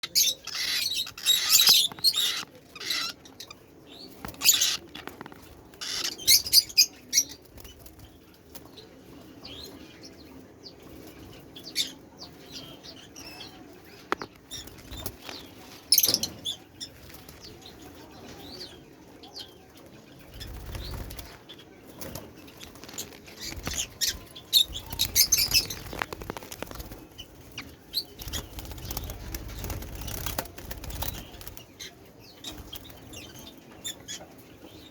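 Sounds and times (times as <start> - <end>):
bird chicks calling: 0.0 - 10.1, 10.8 - 34.9.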